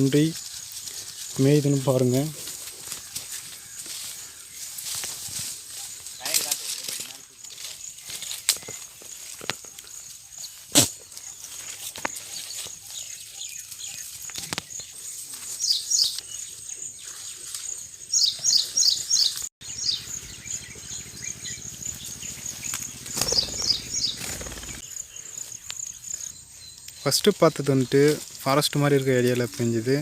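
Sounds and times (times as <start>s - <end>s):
birds chirping: 0.0s - 30.0s
insect trilling: 0.1s - 14.9s, 19.6s - 30.0s.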